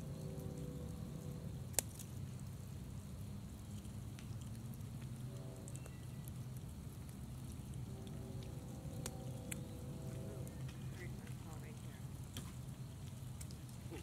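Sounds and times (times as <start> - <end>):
light clicks of falling insects: 0.0 - 9.8, 10.5 - 14.0
steady low hum: 0.0 - 14.0.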